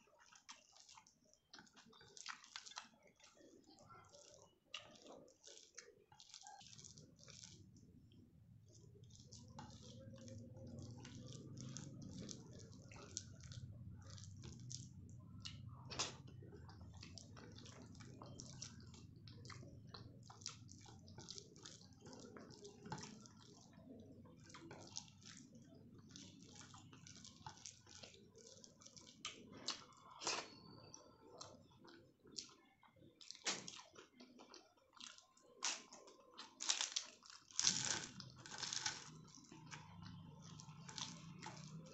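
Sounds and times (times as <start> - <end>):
wet chewing and smacking: 0.0 - 41.9.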